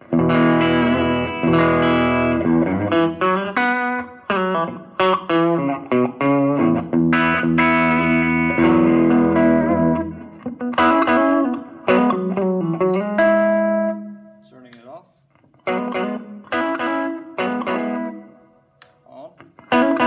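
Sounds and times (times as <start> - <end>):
electric guitar with spring reverb: 0.0 - 20.0.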